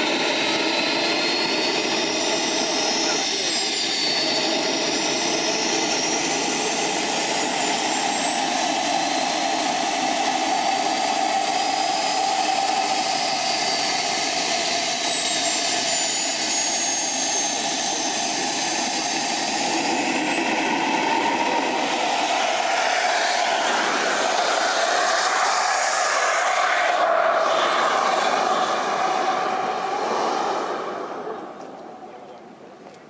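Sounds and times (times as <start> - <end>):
model airplane motor whine: 0.0 - 32.3.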